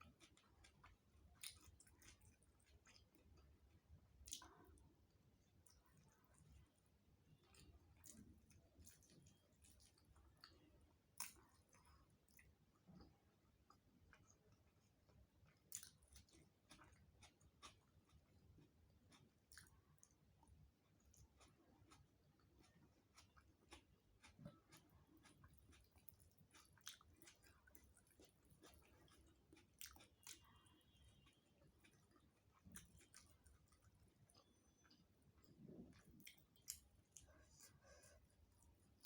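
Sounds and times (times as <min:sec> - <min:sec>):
person chewing food: 0:00.0 - 0:39.0.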